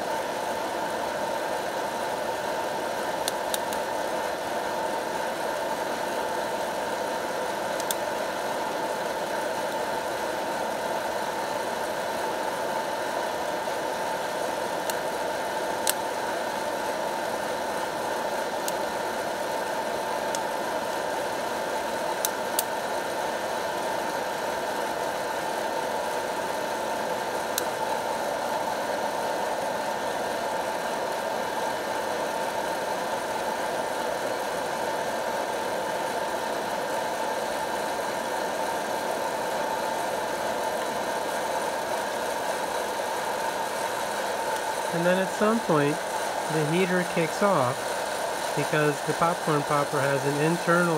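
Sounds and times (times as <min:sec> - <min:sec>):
popcorn popper fan blowing: 0:00.0 - 0:50.9.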